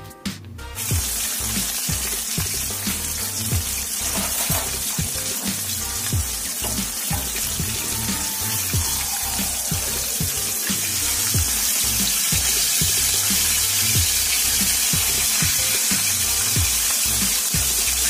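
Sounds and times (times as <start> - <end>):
background music: 0.0 - 18.0
chicken deep-frying in oil: 0.7 - 18.0.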